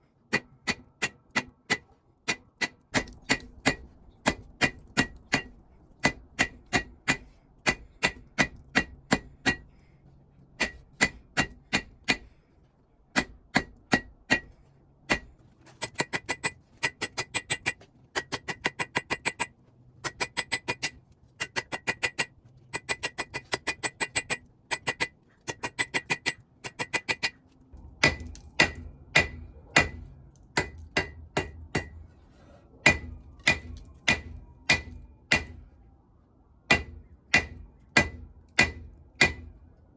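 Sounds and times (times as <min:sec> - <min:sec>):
hammer striking steel on anvil: 0:00.3 - 0:09.7, 0:10.6 - 0:12.3, 0:13.1 - 0:32.0, 0:32.8 - 0:35.6, 0:36.7 - 0:39.6.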